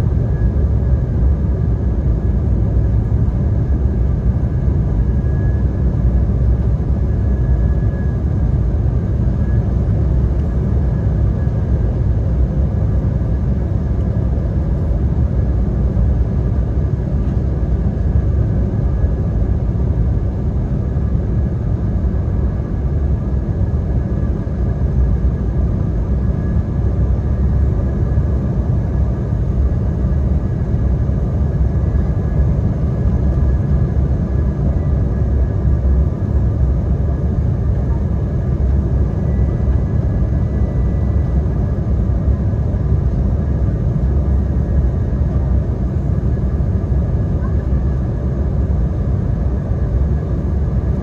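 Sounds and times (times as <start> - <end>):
faint high engine whine: 0.0 - 51.0
low rumble of airflow and engines: 0.0 - 51.0.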